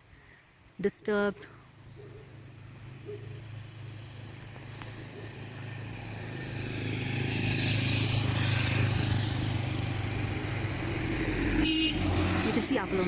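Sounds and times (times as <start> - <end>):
vehicle engine hum: 1.1 - 13.0.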